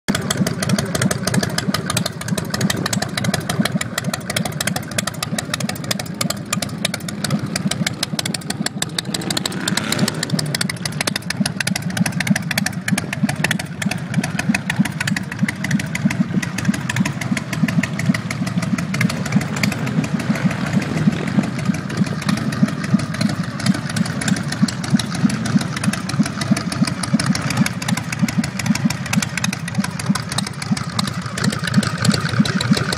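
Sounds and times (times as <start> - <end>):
motorcycle engine idling: 0.1 - 32.9.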